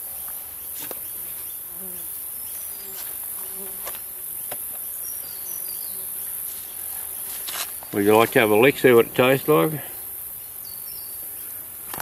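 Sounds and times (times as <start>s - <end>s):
high drone of insects: 0.0s - 12.0s
bees buzzing: 0.1s - 11.9s.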